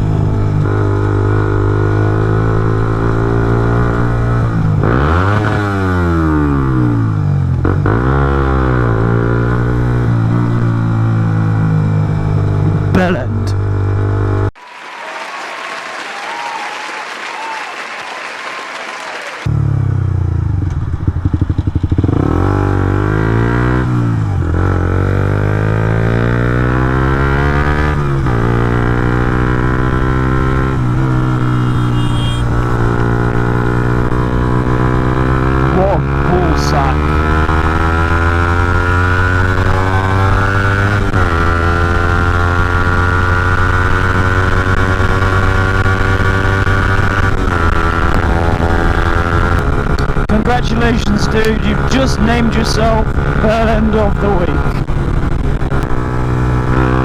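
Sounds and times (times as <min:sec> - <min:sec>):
motorcycle engine accelerating: 0:00.0 - 0:14.5, 0:19.4 - 0:57.0.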